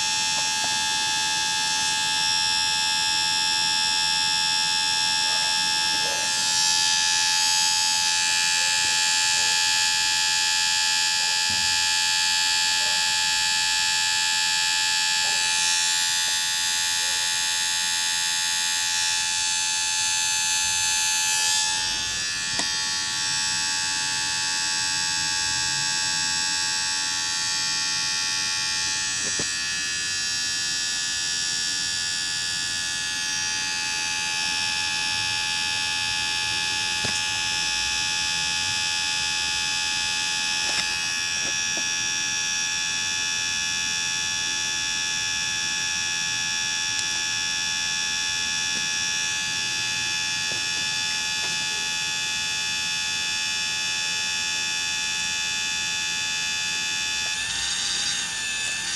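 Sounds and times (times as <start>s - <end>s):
small electric motor whining: 0.0s - 58.9s.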